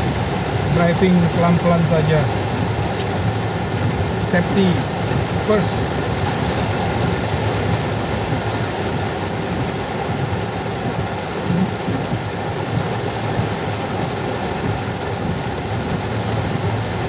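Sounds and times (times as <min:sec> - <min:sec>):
heavy rain on car roof: 0:00.0 - 0:17.0
tyres on flooded road: 0:00.0 - 0:17.0.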